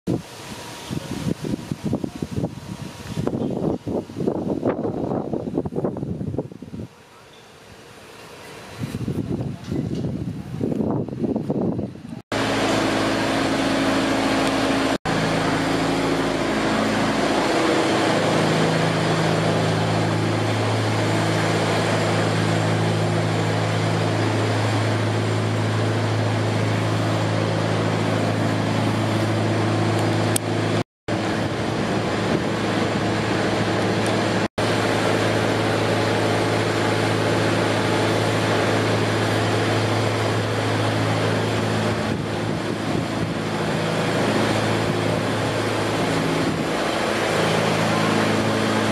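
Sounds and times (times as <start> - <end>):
diesel engines and pumps droning: 0.1 - 48.9.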